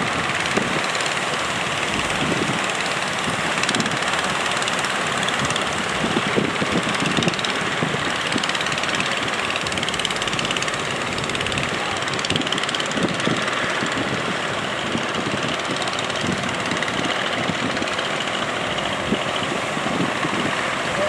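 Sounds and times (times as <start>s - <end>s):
boat engines running: 0.0s - 21.0s.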